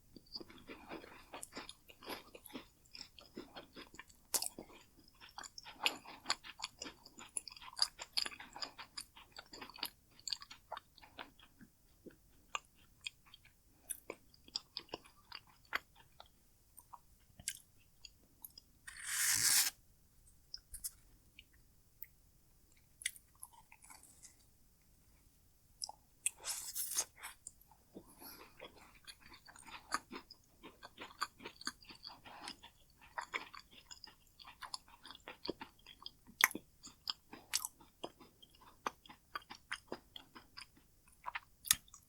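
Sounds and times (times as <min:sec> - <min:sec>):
crunchy chewing: 0:00.4 - 0:17.6, 0:23.0 - 0:24.4, 0:25.8 - 0:42.0.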